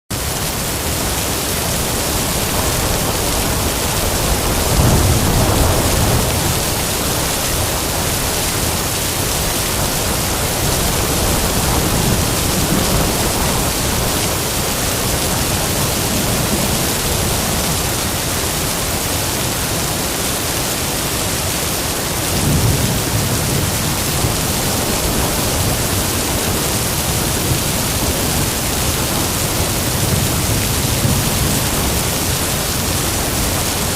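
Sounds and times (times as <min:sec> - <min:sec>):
heavy rain with wind: 0:00.1 - 0:33.9
thunder rumbles: 0:00.8 - 0:20.4, 0:22.1 - 0:33.9.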